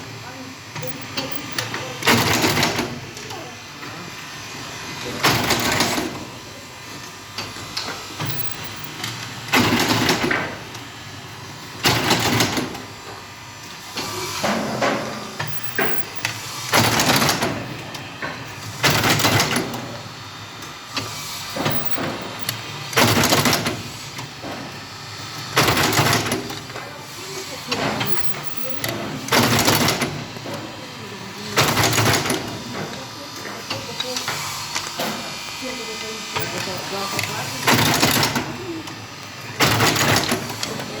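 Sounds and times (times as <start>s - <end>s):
machine mechanical bursts: 0.0s - 41.0s
light machine clatter: 0.3s - 41.0s.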